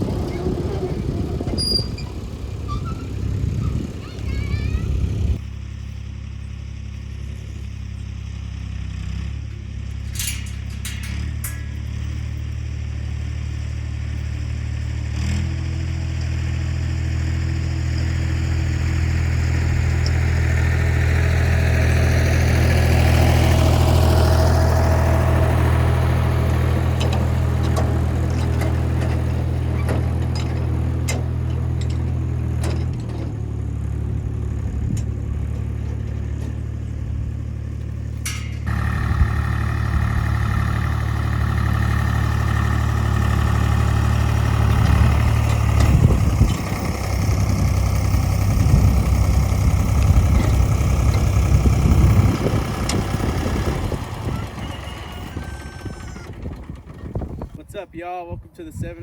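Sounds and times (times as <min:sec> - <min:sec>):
engine running: 0:00.0 - 0:57.9.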